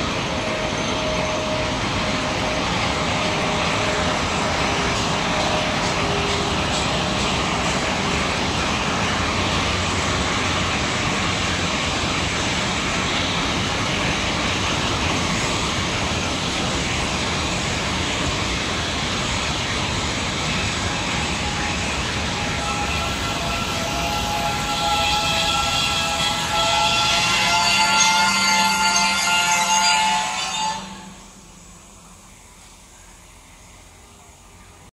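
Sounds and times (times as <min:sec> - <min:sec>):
rolling rail noise: 0:00.0 - 0:34.9.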